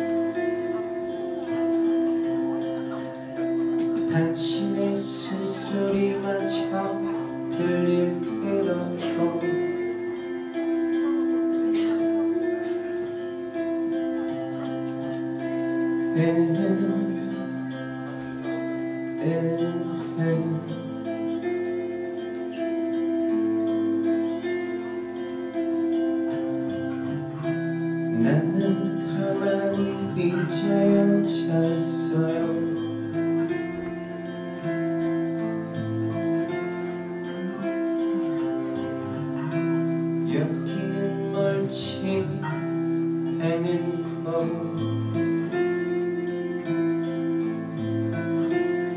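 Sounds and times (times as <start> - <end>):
electric guitar chords: 0.0 - 48.9
rock band playing: 0.0 - 48.9.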